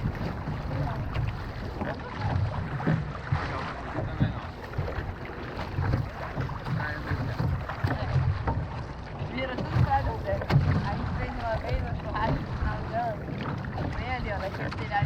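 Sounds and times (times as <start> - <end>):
water wash: 0.0 - 15.0
wind buffeting microphone: 0.0 - 15.0.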